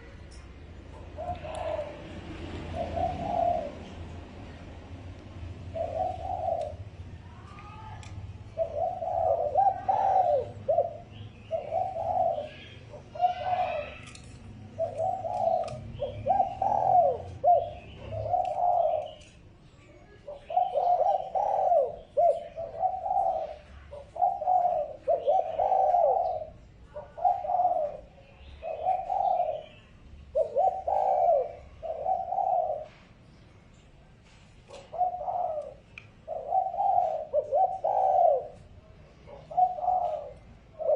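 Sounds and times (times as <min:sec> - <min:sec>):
small birds chirping: 0:00.0 - 0:40.9
dove cooing: 0:00.8 - 0:04.3, 0:05.3 - 0:19.4, 0:20.1 - 0:33.2, 0:34.7 - 0:40.9.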